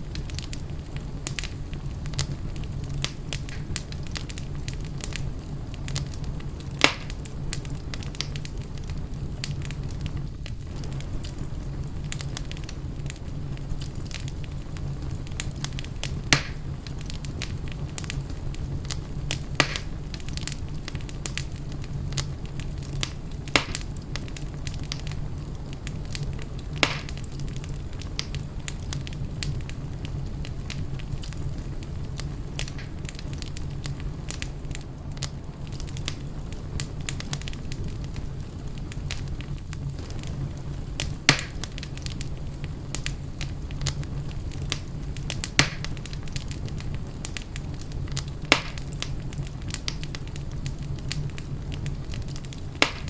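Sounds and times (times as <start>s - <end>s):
sharp fire pops: 0.0s - 53.0s
wood fire crackling: 0.0s - 53.0s.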